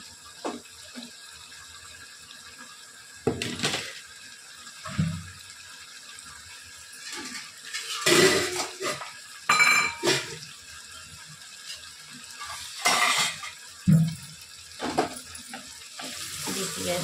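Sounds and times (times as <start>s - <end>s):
faint sizzle: 0.0s - 17.0s.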